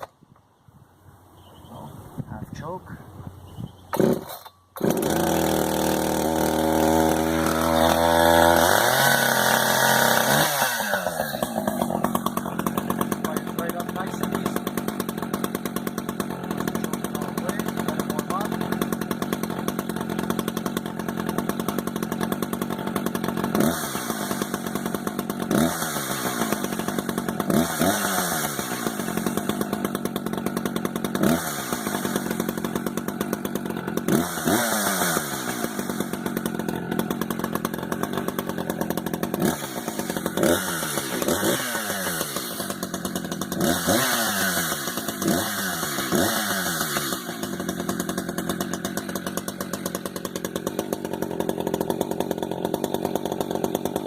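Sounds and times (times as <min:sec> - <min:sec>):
chainsaw engine idling and revving: 0:03.9 - 0:54.0.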